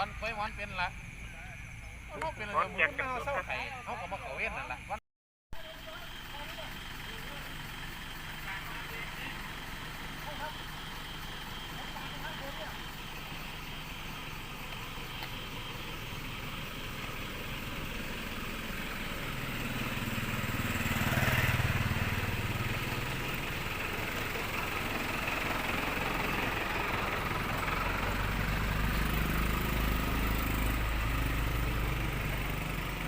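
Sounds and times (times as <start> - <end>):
vehicle engine running: 0.0 - 5.0, 5.6 - 33.0.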